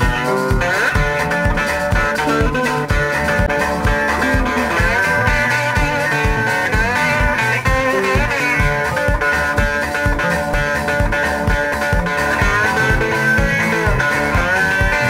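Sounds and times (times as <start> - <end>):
bass: 0.0 - 15.0
electric guitar bending notes: 0.0 - 15.0
steady drum beat: 0.0 - 15.0.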